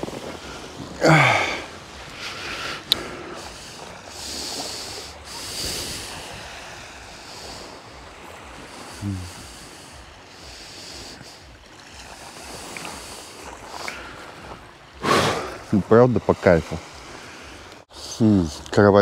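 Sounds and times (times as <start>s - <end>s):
wind rumbling on microphone: 0.0s - 17.8s
sea waves washing ashore: 0.0s - 19.0s.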